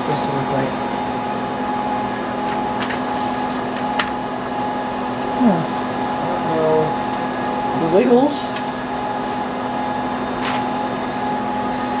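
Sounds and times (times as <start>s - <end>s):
laser printer humming: 0.0s - 12.0s.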